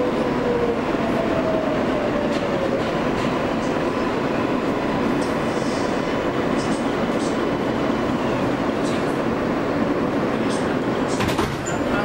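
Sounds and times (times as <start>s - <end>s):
subway wheels rumbling on rail: 0.0s - 12.0s.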